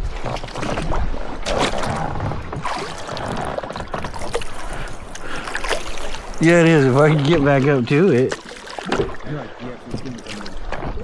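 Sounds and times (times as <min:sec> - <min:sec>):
water sloshing around kayak: 0:00.0 - 0:11.0.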